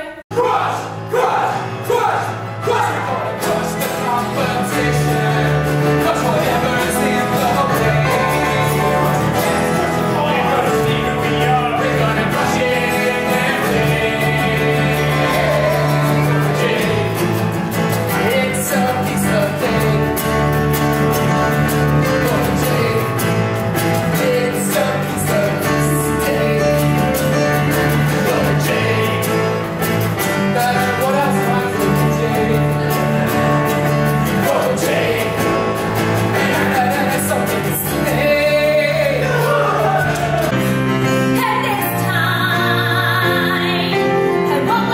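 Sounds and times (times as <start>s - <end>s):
acoustic guitar: 0.3s - 44.9s
keyboard: 0.3s - 44.9s
man singing: 0.4s - 40.6s.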